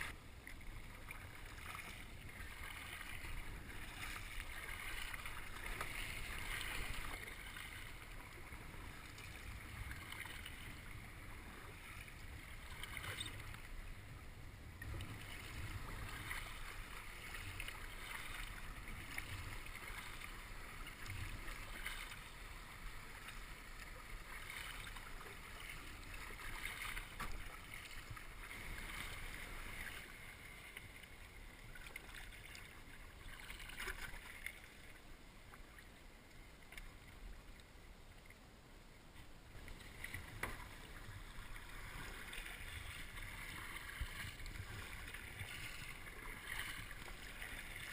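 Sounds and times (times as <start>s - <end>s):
paddle swishing and splashing: 0.0s - 13.8s, 14.8s - 35.0s, 39.5s - 47.9s.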